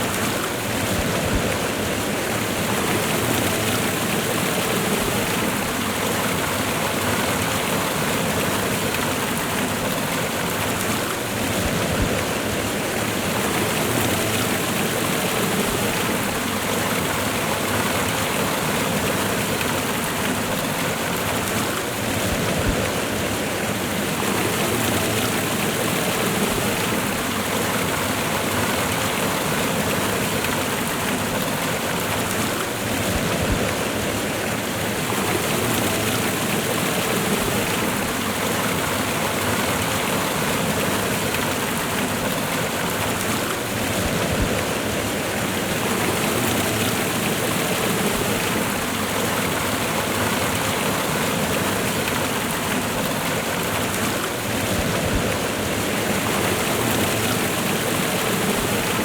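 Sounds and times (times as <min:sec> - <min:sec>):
waterfall and river rushing: 0:00.0 - 0:59.0.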